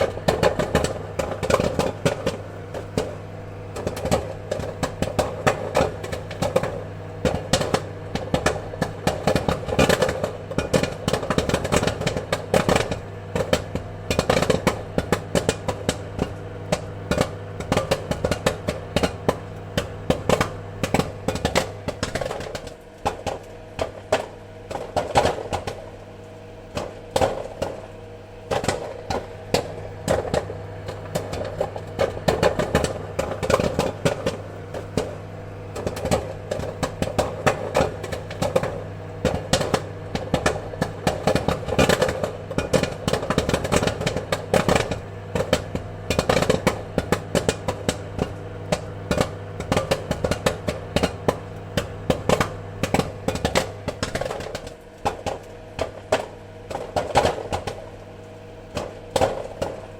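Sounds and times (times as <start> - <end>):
popcorn popping: 0.0 - 59.9
steady low hum: 0.0 - 59.9.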